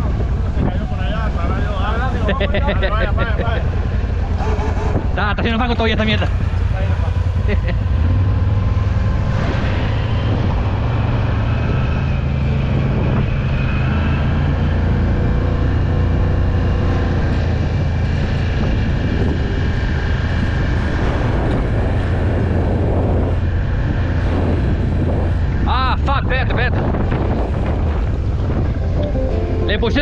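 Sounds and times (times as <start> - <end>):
off-road vehicle engine droning: 0.0 - 30.0.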